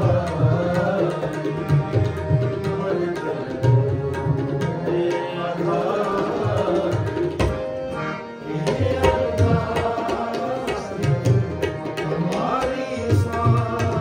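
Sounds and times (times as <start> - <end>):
harmonium chords: 0.0 - 14.0.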